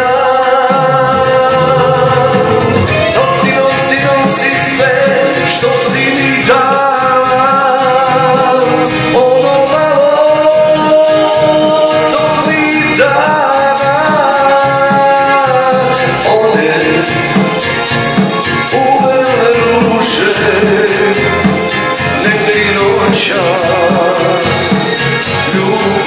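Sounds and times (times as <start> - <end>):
backing track with steady beat: 0.0 - 26.0
man singing into a microphone: 0.0 - 26.0.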